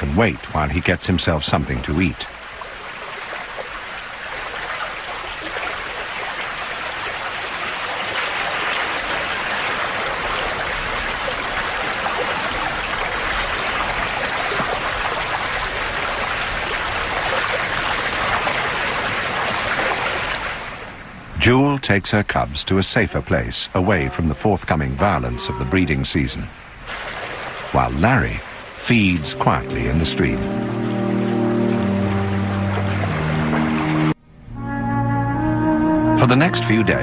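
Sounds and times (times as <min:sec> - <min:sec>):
stream water rushing: 0:00.0 - 0:21.3, 0:22.7 - 0:37.0.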